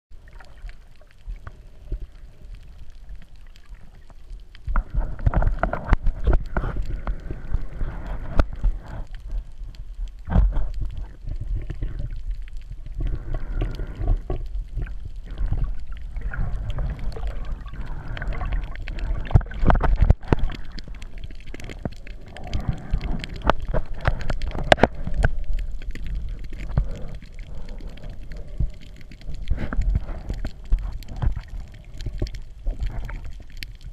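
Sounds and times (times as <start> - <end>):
low underwater rumble: 0.1 - 33.9
water sloshing and gurgling underwater: 0.1 - 33.9.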